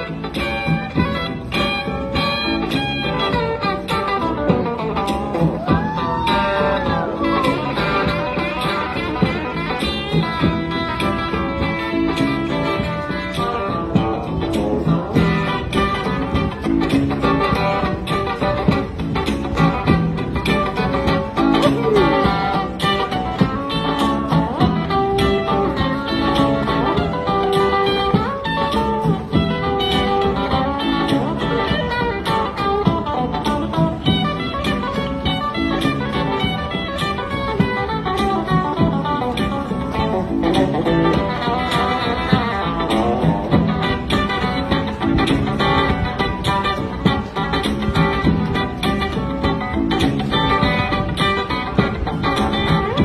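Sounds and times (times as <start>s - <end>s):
electric guitar bluesy tune: 0.0s - 53.0s.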